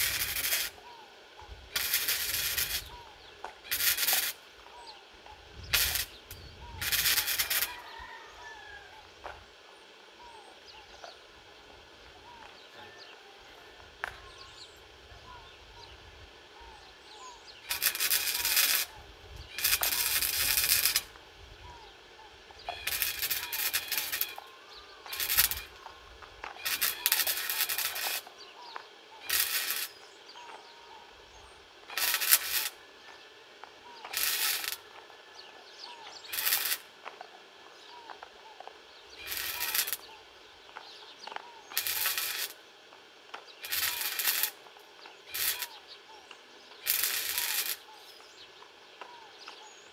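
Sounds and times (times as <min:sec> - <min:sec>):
crackling welding arc: 0:00.0 - 0:09.5, 0:16.5 - 0:35.1, 0:35.8 - 0:37.2, 0:37.9 - 0:48.4.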